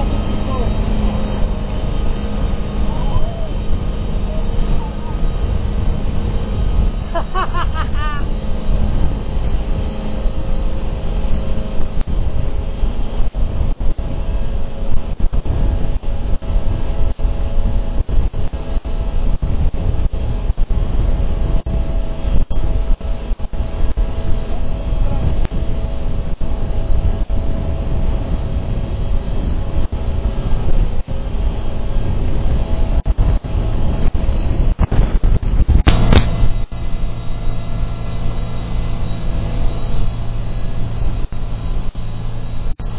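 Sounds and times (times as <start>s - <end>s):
boat engine droning: 0.0s - 42.9s
wind rumble on microphone: 0.0s - 42.9s.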